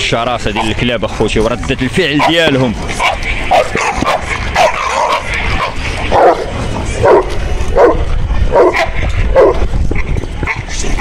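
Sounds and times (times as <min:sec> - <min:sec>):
dogs barking fiercely: 0:00.3 - 0:11.0.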